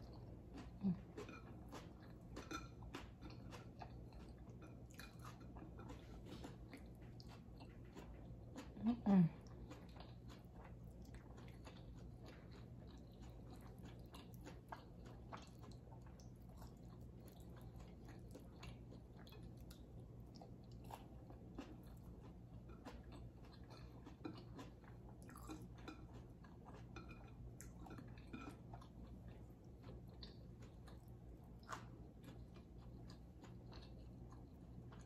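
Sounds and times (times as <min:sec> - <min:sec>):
chewing fried fish: 0:00.0 - 0:35.0.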